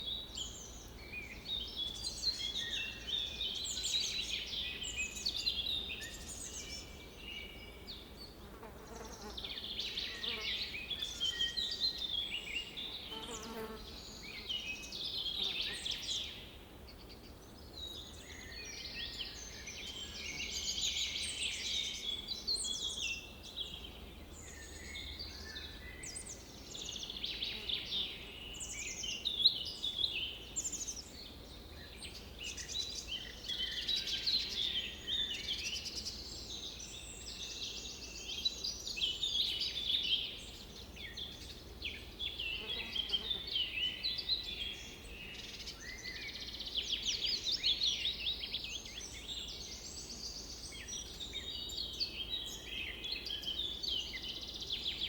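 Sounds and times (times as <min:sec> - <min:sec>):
wild birds chirping and trilling: 0:00.0 - 0:55.0.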